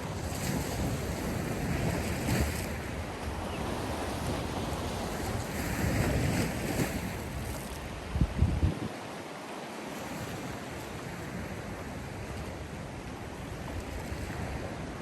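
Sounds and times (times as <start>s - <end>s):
wind rumbling on microphone: 0.0s - 9.1s, 10.0s - 15.0s.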